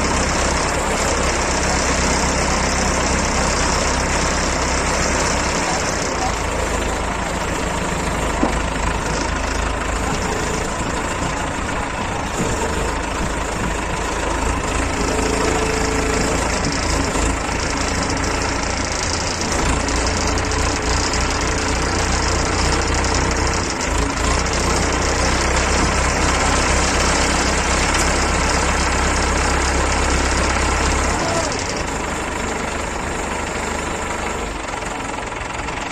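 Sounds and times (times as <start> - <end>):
heavy machinery engine running: 0.0 - 35.9.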